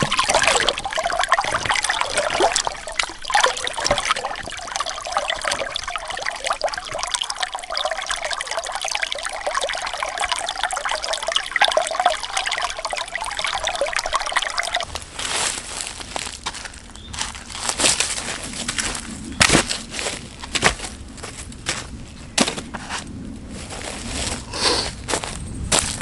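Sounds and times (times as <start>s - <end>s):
water trickling and babbling: 0.0s - 23.0s.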